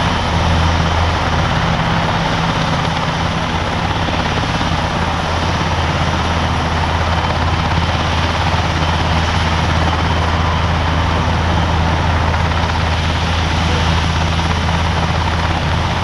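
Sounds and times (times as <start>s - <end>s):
helicopter low hum: 0.0s - 16.0s
turbine rush: 0.0s - 16.0s.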